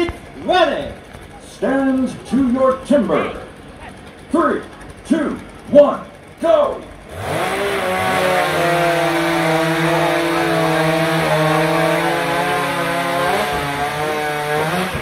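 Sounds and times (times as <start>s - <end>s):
chainsaws cutting a log: 0.0s - 15.0s.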